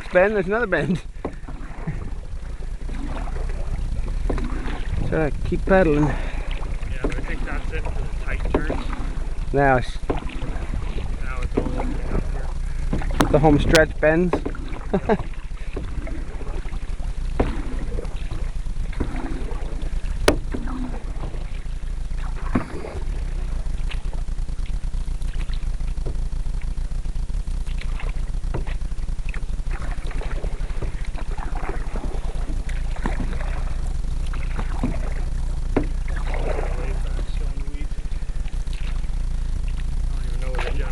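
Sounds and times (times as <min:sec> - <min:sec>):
paddle knocking against hull: 0:00.0 - 0:26.9, 0:27.6 - 0:40.9
low rumble: 0:00.0 - 0:40.9
paddle strokes through water: 0:00.0 - 0:40.9.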